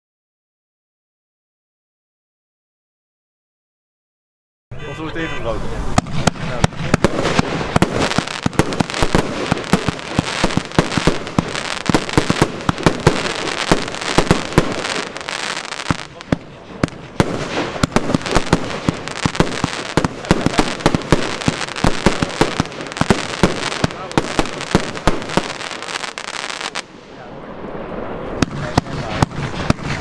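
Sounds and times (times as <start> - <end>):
firework bangs and crackles: 5.8 - 30.0.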